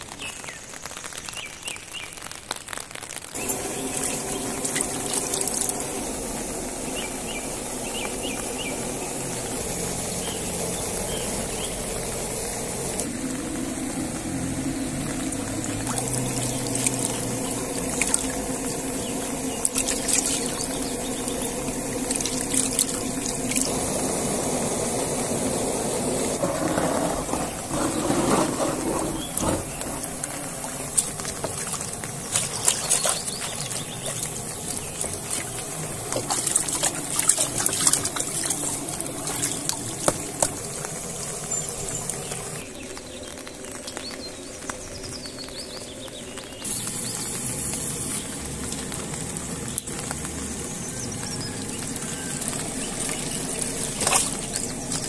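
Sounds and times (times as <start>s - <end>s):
water pouring and trickling: 0.0s - 55.0s
steady hum: 3.4s - 55.0s.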